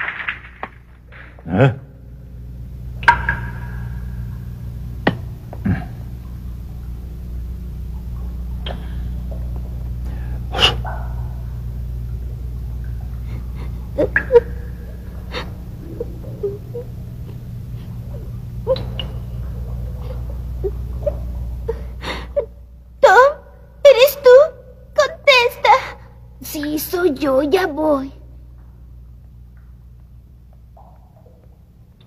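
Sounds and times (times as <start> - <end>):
low steady rumble: 0.0 - 32.0.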